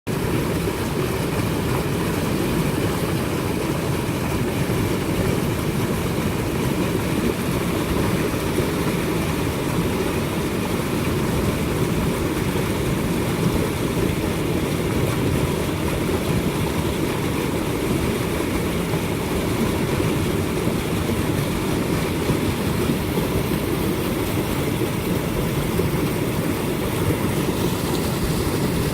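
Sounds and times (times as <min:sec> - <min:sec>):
water boiling: 0:00.1 - 0:28.9.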